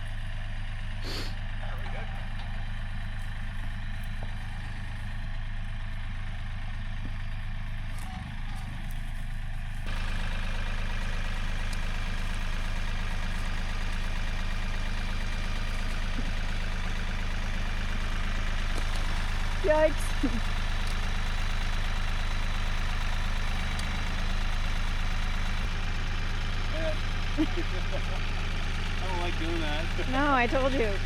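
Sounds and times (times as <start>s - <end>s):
heavy machine engine running: 0.0s - 31.0s.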